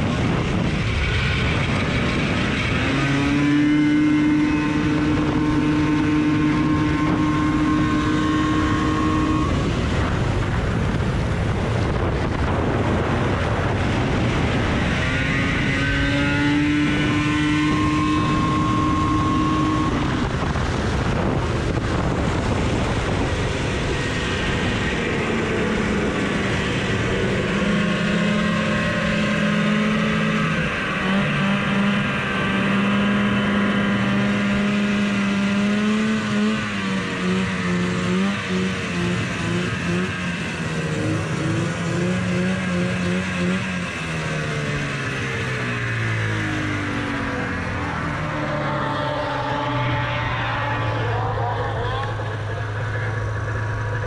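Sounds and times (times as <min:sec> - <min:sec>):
snowmobile engine racing: 0:00.0 - 0:54.0.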